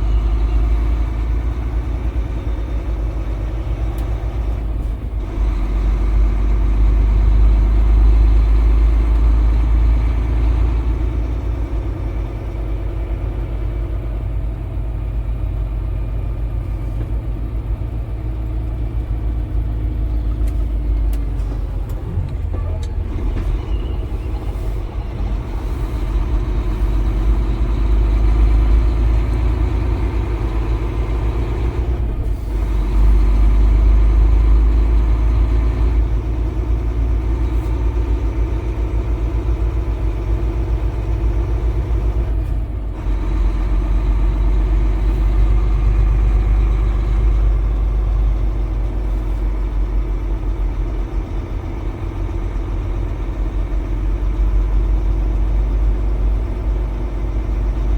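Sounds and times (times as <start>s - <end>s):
diesel truck engine rumbling: 0.0s - 57.9s.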